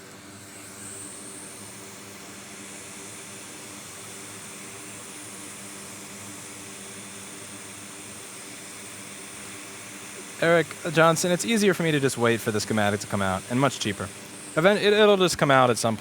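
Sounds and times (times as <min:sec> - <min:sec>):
hot air blower hissing: 0:00.0 - 0:16.0
steady low hum: 0:00.4 - 0:16.0.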